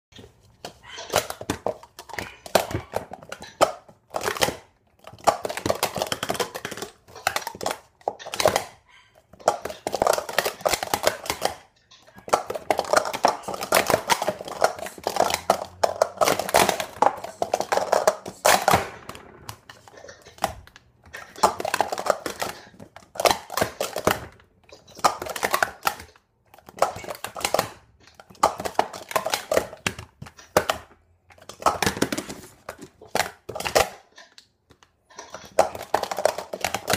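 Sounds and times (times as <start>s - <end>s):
plastic cups clattering: 0.1s - 36.9s.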